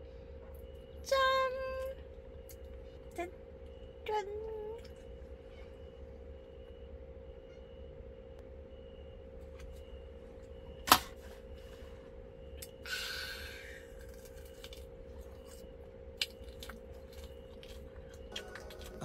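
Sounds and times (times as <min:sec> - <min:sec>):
electric fan humming: 0:00.0 - 0:19.0
night ambience: 0:00.0 - 0:19.0.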